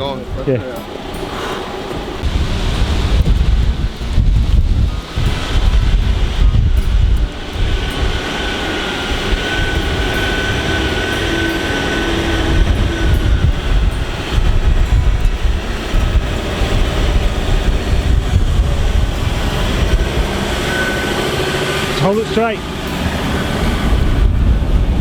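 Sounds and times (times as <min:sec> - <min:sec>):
engine and drivetrain rumble: 0:00.0 - 0:25.0
held whine: 0:00.0 - 0:25.0.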